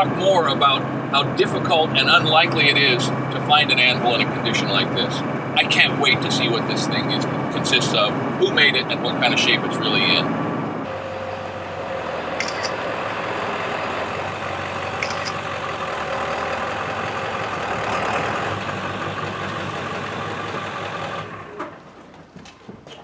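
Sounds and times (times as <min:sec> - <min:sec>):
truck engine idling: 0:00.0 - 0:22.4.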